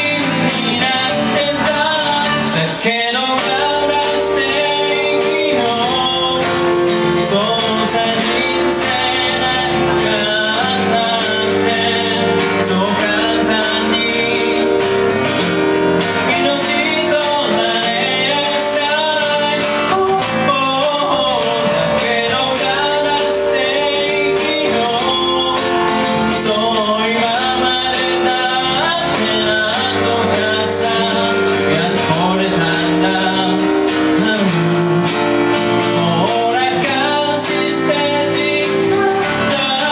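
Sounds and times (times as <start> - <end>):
electric keyboard: 0.0 - 39.9
man singing: 0.0 - 39.9
strummed acoustic guitar: 0.0 - 39.9.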